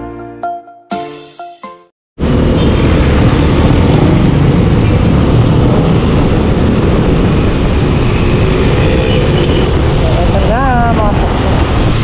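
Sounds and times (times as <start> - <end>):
wind buffeting microphone: 2.2 - 12.0.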